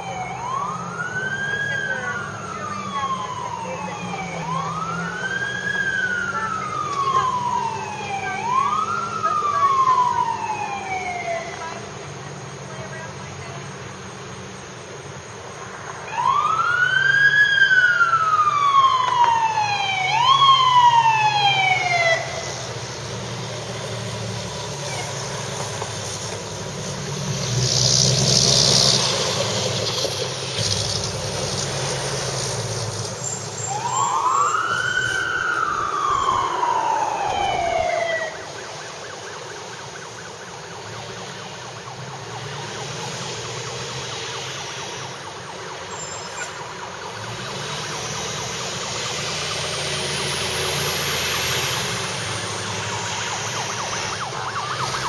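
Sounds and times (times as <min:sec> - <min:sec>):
truck engine running low: 0:00.0 - 0:55.0.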